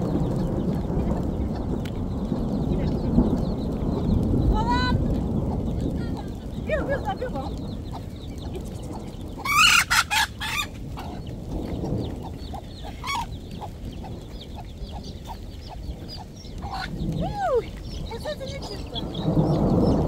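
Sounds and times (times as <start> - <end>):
chickens clucking and peeping: 0.0 - 20.0.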